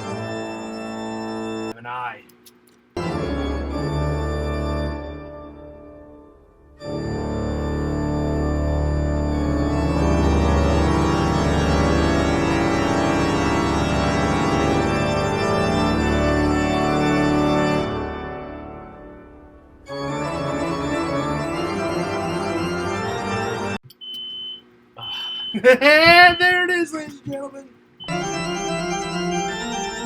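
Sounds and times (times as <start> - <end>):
organ playing sustained chords: 0.0 - 1.7, 3.0 - 23.8, 28.0 - 30.0.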